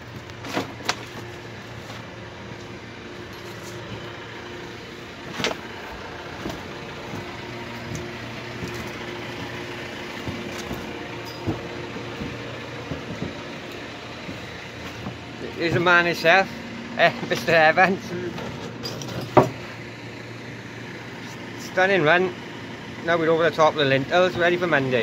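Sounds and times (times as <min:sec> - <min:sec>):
machine hum: 0:00.0 - 0:23.1.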